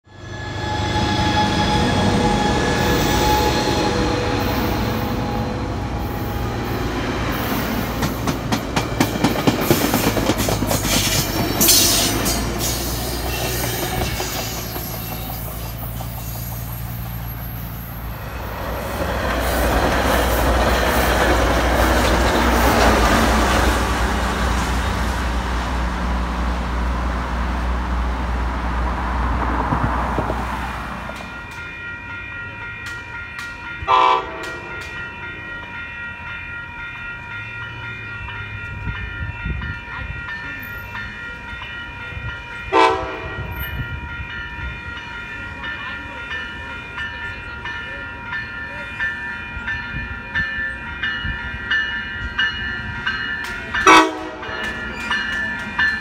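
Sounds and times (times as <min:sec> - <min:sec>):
train rumbling past: 0:00.1 - 0:56.0
locomotive running: 0:00.2 - 0:56.0.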